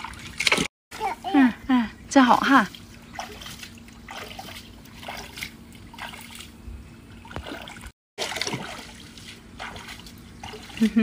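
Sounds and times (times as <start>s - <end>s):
small water splashes: 0.0s - 0.7s, 2.4s - 11.0s.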